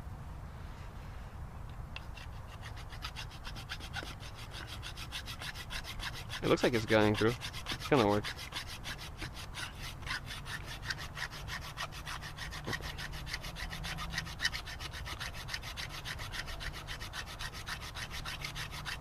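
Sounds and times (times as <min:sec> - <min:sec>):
metal grinding scraping strokes: 0:02.0 - 0:19.0.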